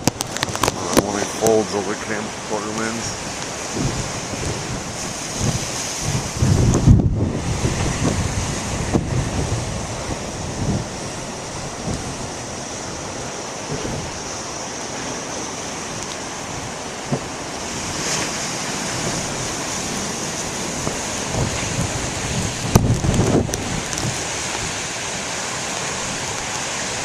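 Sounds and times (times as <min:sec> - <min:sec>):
storm surf breaking: 0:00.0 - 0:27.0
wind gusting on microphone: 0:00.0 - 0:27.0.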